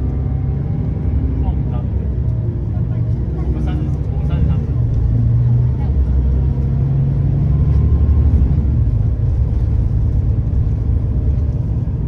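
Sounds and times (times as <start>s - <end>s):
coach diesel engine drone: 0.0s - 12.0s
road rumble: 0.0s - 12.0s.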